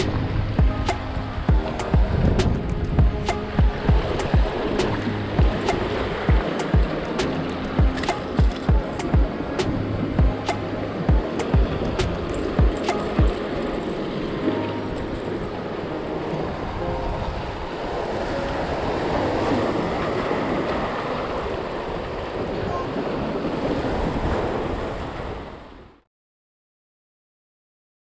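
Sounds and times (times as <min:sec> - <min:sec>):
sea waves breaking on rocks: 0:00.0 - 0:25.8
wind buffeting microphone: 0:00.0 - 0:25.8.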